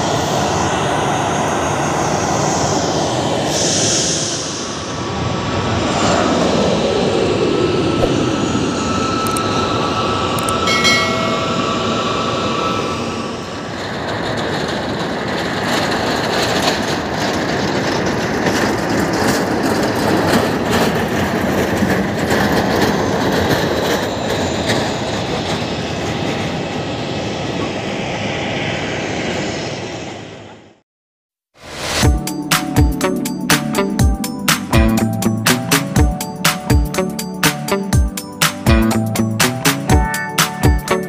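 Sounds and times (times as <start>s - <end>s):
jet engines roaring: 0.0s - 30.6s, 31.6s - 41.0s.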